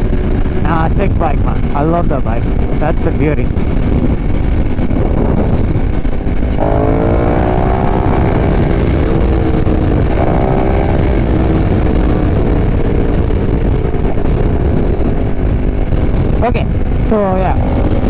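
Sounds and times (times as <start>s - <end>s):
motorcycle engine under way: 0.0s - 18.0s
wind rumble on microphone: 0.0s - 18.0s.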